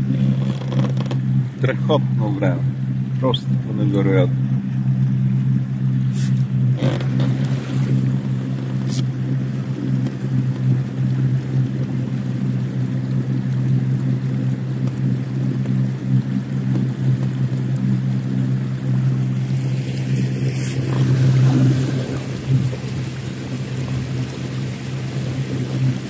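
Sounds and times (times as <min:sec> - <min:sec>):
outboard motor humming: 0:00.0 - 0:26.0
water along hull: 0:00.0 - 0:26.0.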